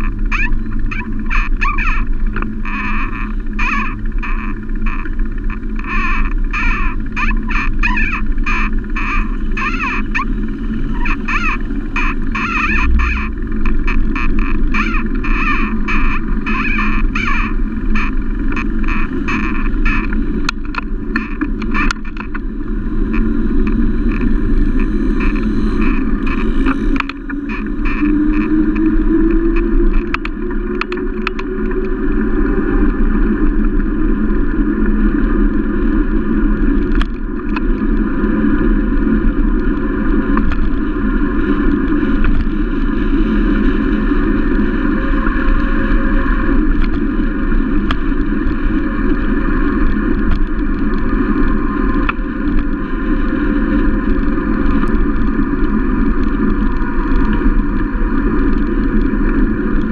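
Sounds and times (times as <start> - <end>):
tyre humming on asphalt: 0.0 - 59.9
wind buffeting microphone: 0.0 - 59.9.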